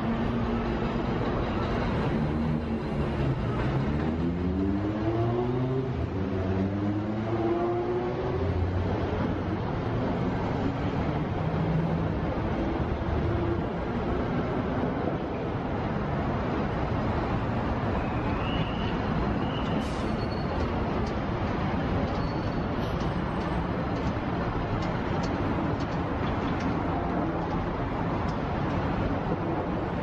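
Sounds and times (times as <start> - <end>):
street traffic: 0.0 - 30.0.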